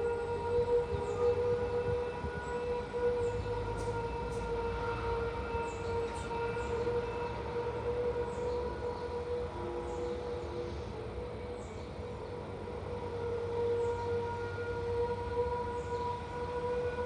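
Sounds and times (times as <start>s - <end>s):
trumpet-like drone: 0.0s - 17.0s.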